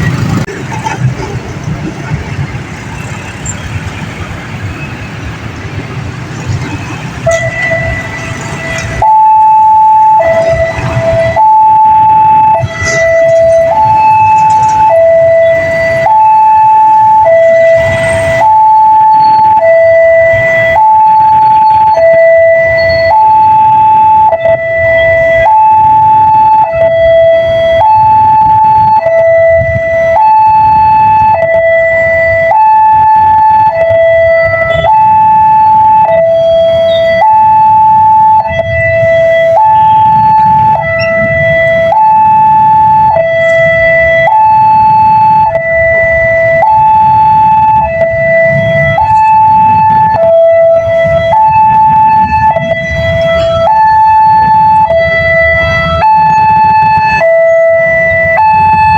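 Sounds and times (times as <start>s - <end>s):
road traffic: 0.0s - 58.9s
two-tone level-crossing siren: 6.2s - 58.9s.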